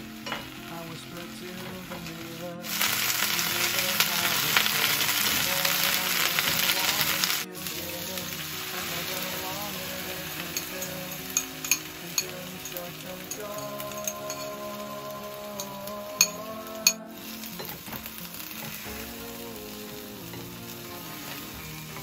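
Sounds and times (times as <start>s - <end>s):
greens sizzling in frying pan: 0.0s - 22.0s.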